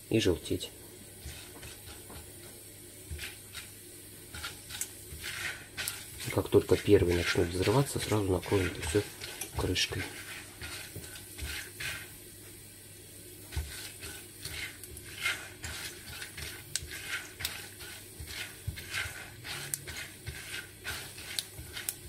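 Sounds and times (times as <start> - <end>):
faint oil sizzle: 0.0 - 22.0
spatula scraping pot: 1.2 - 12.2, 13.4 - 22.0.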